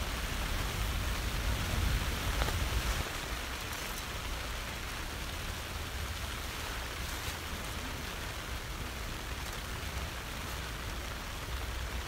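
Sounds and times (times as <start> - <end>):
rain on tent: 0.0 - 12.0.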